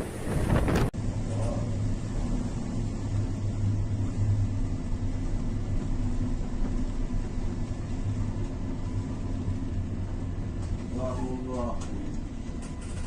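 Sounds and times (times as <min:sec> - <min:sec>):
low rumble: 0:00.0 - 0:13.0
deep hum: 0:00.2 - 0:12.6.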